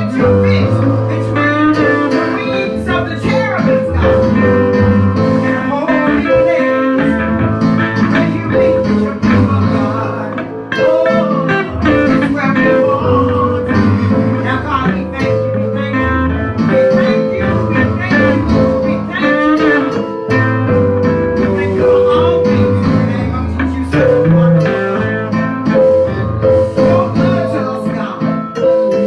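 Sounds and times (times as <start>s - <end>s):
bass line: 0.0s - 29.0s
electric guitar lead: 0.0s - 29.0s
gospel band music: 0.0s - 29.0s.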